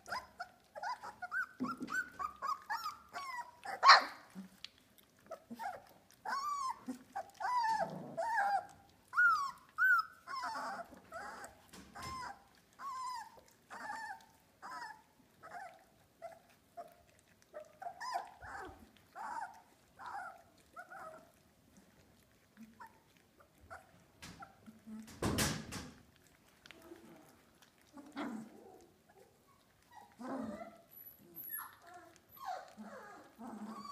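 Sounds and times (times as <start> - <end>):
puppies whining: 0.0 - 25.2, 26.0 - 33.9.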